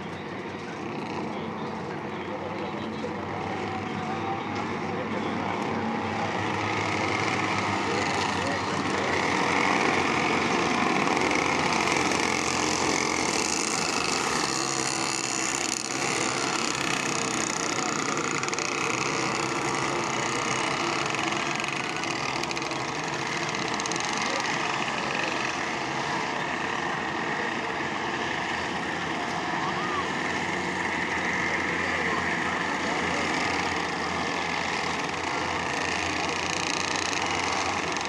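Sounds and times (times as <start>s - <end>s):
go-kart engines droning: 0.0s - 38.0s.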